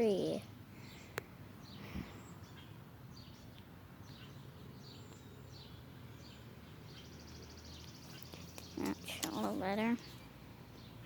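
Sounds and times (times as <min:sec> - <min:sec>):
faint birdsong chirps: 0:00.0 - 0:11.0.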